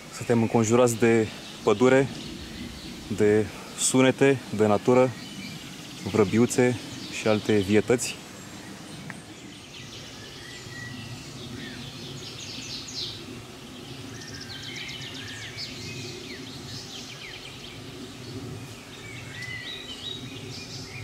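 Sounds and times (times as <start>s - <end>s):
songbirds singing and chirping: 0.0s - 21.0s
steady low rumble: 0.0s - 21.0s.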